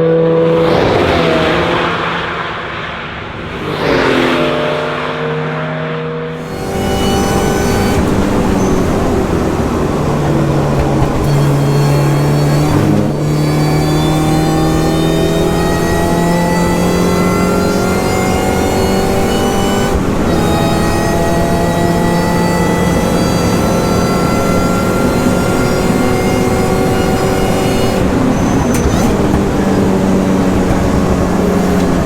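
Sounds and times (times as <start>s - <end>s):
race car engine at full throttle: 0.0s - 32.0s.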